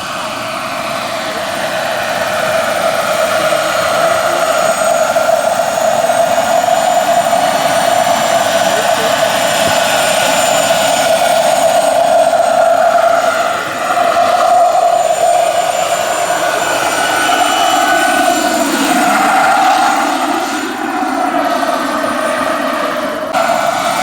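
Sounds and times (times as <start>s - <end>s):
helicopter rotor: 0.0s - 24.0s
model helicopter turbine whine: 0.0s - 24.0s.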